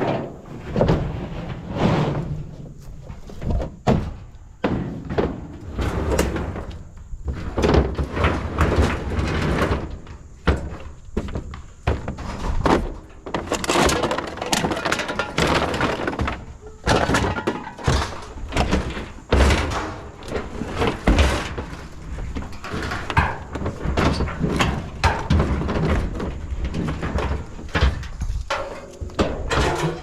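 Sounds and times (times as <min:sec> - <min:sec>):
scrap metal clanking into truck: 0:00.0 - 0:11.0, 0:12.2 - 0:30.0.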